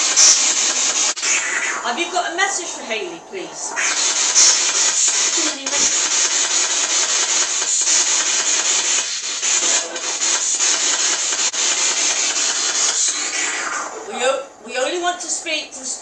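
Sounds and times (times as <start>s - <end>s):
loud radio static hiss: 0.0s - 16.0s.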